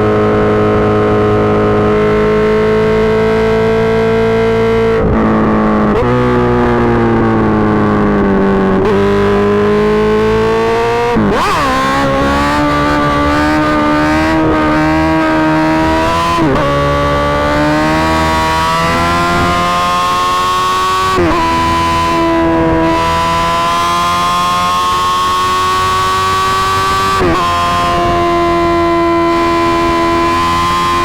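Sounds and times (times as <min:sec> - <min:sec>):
motorcycle engine running loud: 0:00.0 - 0:31.0.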